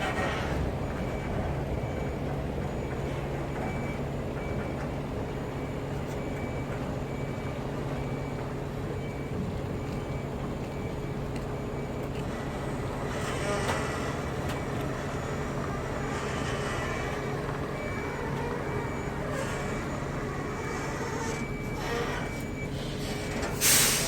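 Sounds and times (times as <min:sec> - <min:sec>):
vehicle engine humming: 0:00.0 - 0:23.7
road noise: 0:00.0 - 0:24.0.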